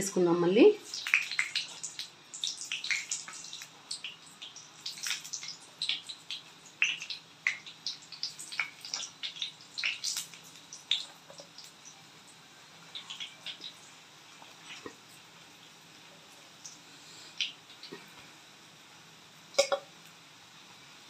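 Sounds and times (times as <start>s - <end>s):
oil crackling and popping: 0.8s - 18.2s, 19.5s - 20.2s.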